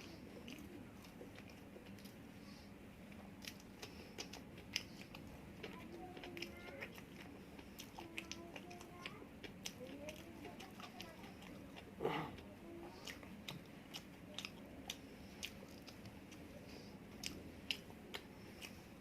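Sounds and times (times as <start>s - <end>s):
soft mouth clicks and smacks: 0.0s - 2.3s, 3.1s - 19.0s
person chewing food: 0.0s - 19.0s.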